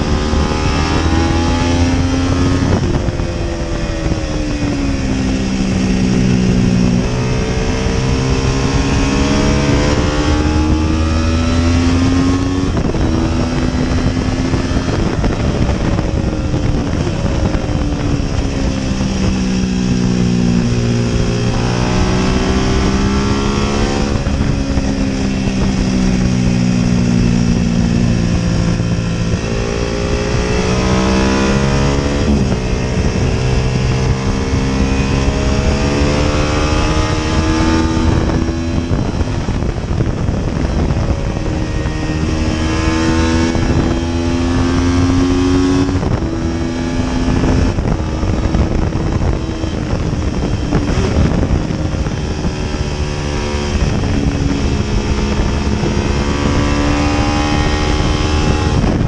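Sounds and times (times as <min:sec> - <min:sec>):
racing motorcycle engine revving: 0:00.0 - 0:59.0
wind rushing over microphone: 0:00.0 - 0:59.0.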